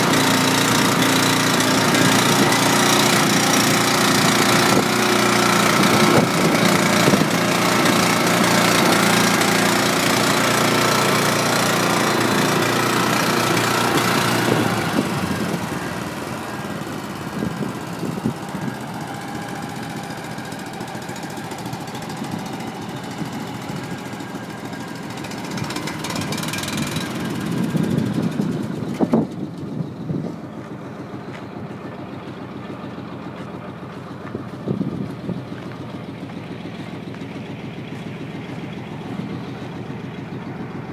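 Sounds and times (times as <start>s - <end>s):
small gas engine running: 0.0s - 40.9s.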